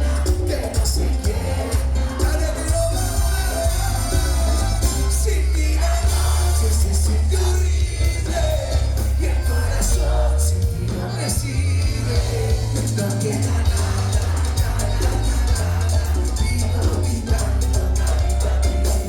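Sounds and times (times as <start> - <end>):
heavy bass line: 0.0 - 19.0
lead vocal singing: 0.0 - 19.0
live latin dance band: 0.0 - 19.0.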